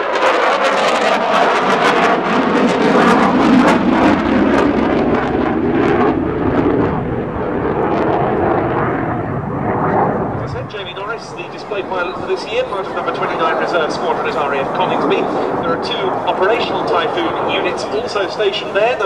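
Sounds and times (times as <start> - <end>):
jet roar with crackling: 0.0 - 19.0.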